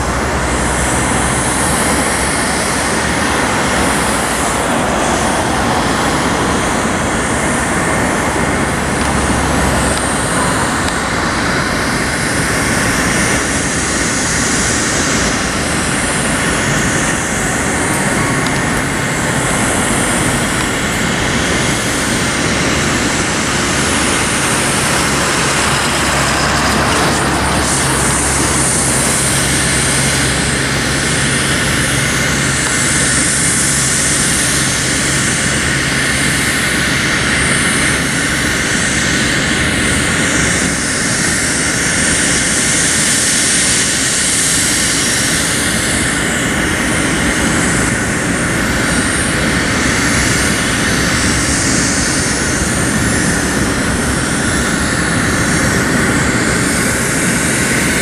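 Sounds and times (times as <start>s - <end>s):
jet engines idling: 0.0s - 58.0s.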